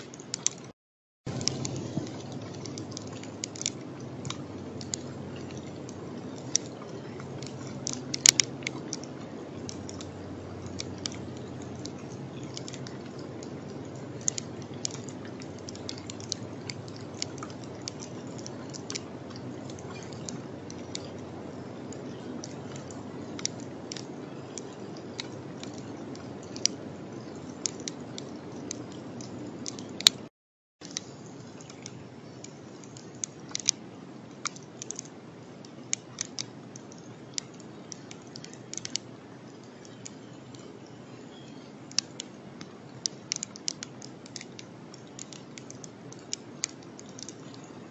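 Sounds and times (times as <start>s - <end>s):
sharp ticks and clicks: 0.0s - 0.7s, 1.3s - 47.9s.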